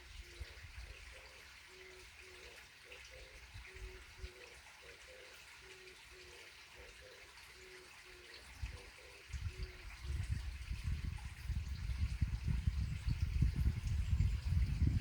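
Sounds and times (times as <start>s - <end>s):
trickle of running water: 0.0s - 15.0s.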